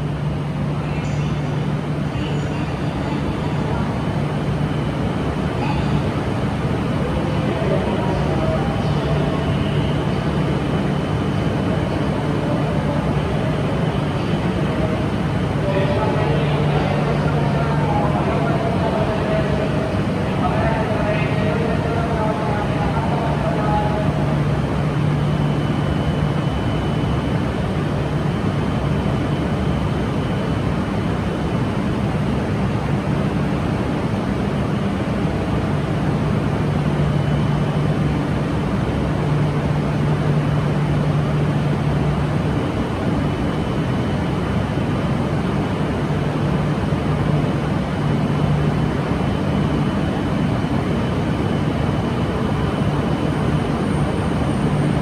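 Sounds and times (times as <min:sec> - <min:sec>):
train rumble and low hum: 0:00.0 - 0:55.0.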